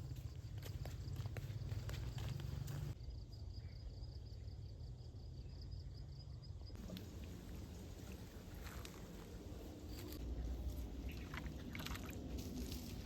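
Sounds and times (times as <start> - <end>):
constant low rumble: 0.0 - 13.0.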